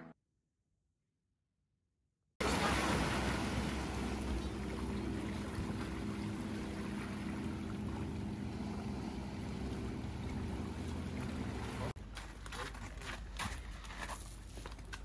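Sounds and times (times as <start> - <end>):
wind: 2.4 - 15.0.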